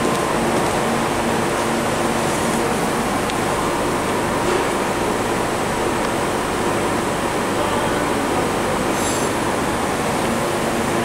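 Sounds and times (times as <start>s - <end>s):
laser cutting machine running: 0.0s - 11.0s.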